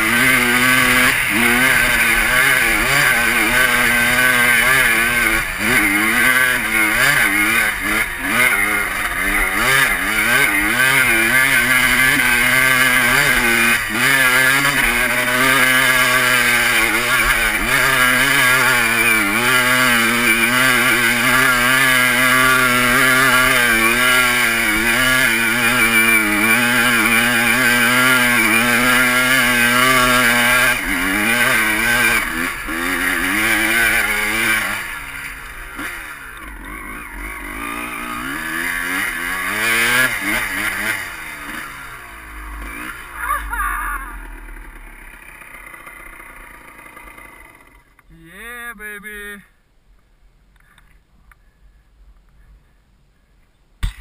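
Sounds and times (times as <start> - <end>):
dirt bike engine revving: 0.0 - 49.4.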